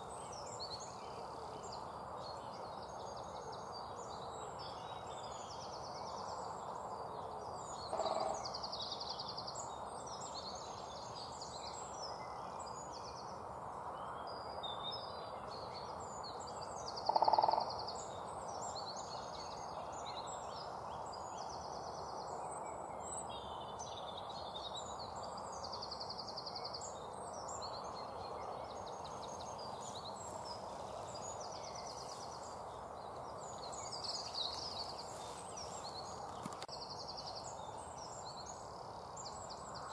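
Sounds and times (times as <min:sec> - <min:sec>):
outdoor background hiss: 0:00.0 - 0:39.9
songbirds singing and chirping: 0:00.0 - 0:39.9.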